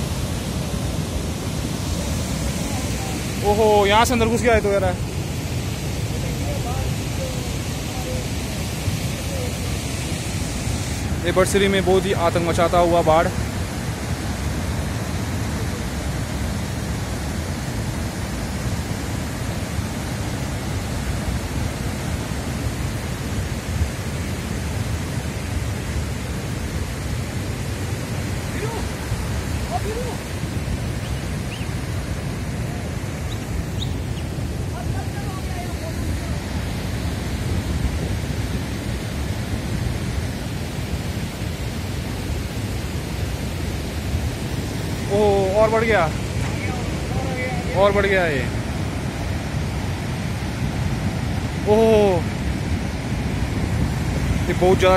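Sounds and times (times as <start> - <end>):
floodwater rushing: 0.0 - 54.9.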